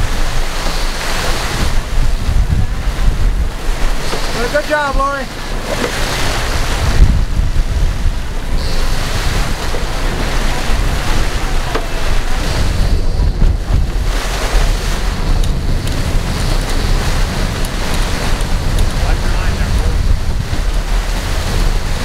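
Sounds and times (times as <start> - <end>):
low engine rumble: 0.0 - 22.0
water churning and splashing: 0.0 - 22.0
wind buffeting microphone: 0.0 - 22.0.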